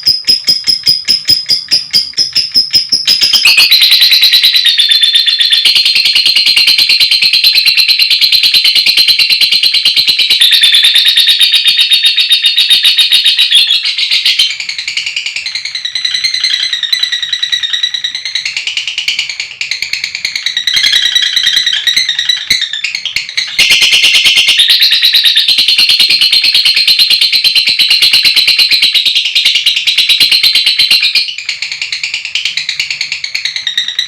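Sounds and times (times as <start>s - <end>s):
lovebird trilling and chirping: 0.0s - 34.0s.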